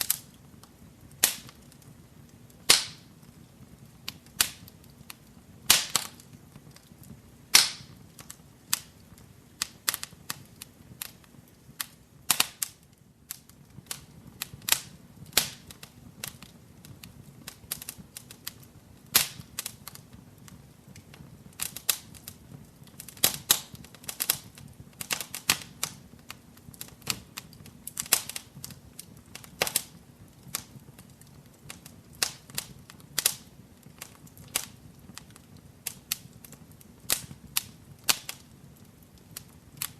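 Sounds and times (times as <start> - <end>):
low hiss of burning: 0.0 - 39.9
wood fire crackling: 0.0 - 39.9.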